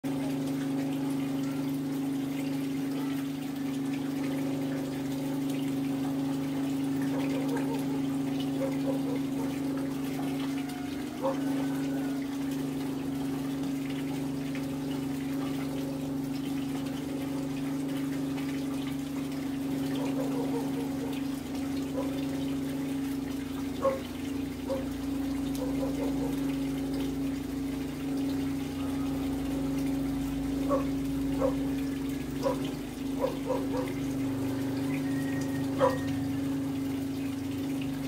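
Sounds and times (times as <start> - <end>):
water pouring into a tank: 0.0 - 38.0.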